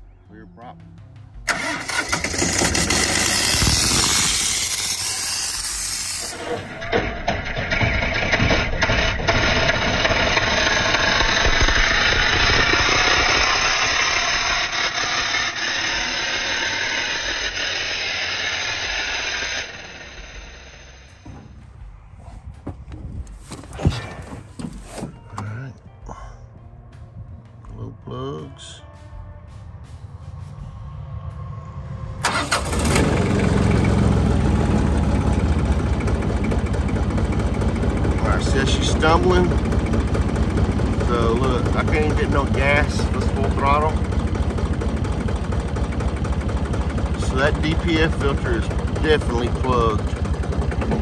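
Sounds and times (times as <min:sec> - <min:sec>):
diesel tractor engine hissing: 0:01.5 - 0:07.0, 0:07.7 - 0:21.9, 0:28.6 - 0:51.0.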